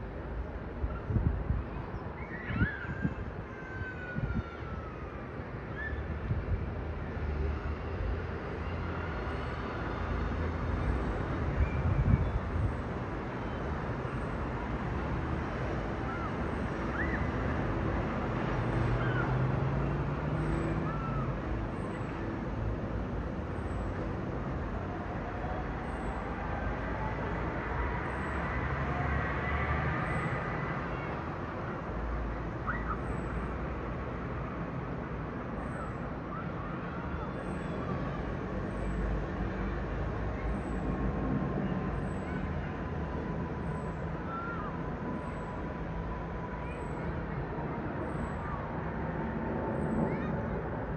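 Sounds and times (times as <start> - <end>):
jet engine roar overhead: 0.0 - 50.9.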